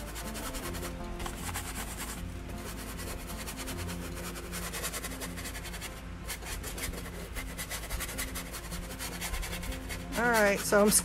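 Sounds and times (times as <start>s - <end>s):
brush scrubbing on canvas: 0.0s - 11.0s.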